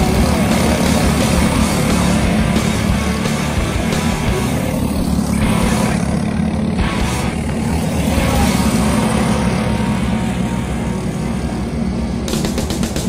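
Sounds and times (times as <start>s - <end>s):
kart engines racing: 0.0s - 13.0s.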